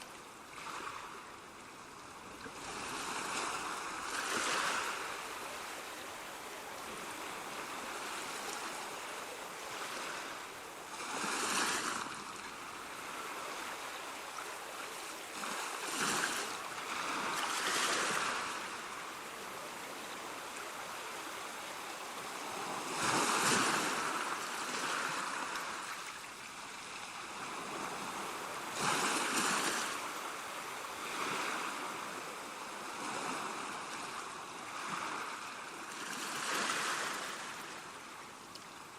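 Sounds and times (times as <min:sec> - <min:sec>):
surf wash: 0:00.0 - 0:38.9
ocean waves breaking: 0:02.4 - 0:38.2.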